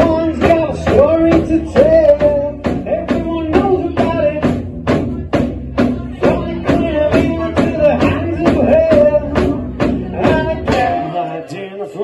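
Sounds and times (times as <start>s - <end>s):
ukulele rock band playing: 0.0s - 11.3s
drum kit beat: 0.0s - 11.4s.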